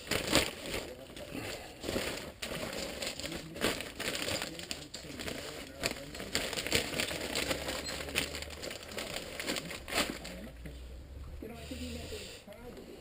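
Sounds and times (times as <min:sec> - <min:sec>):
hard plastic clicks and rustles: 0:00.0 - 0:10.7.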